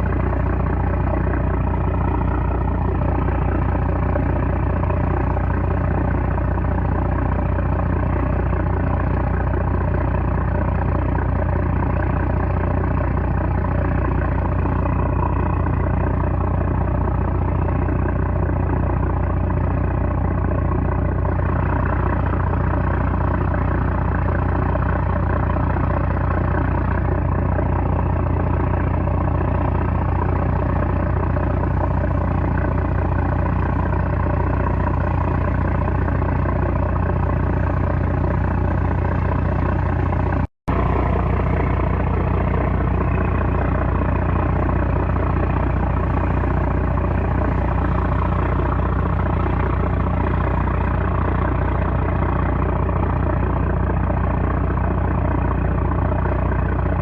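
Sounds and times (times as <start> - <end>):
boat diesel engine droning: 0.0 - 57.0.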